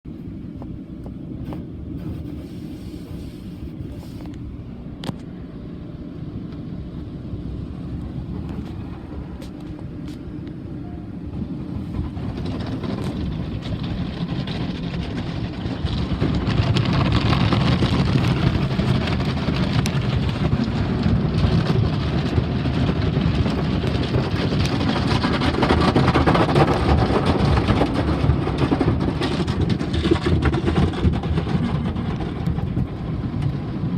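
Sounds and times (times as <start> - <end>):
automatic car wash rushing: 0.1 - 33.9.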